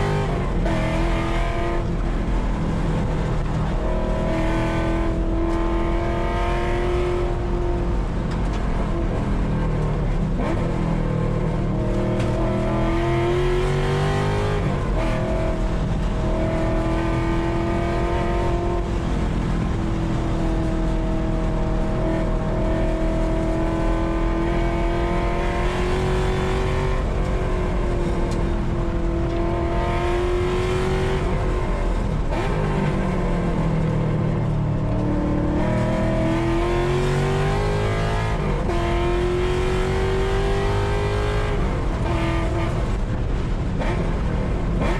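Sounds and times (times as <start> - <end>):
car engine revving high: 0.0 - 44.9.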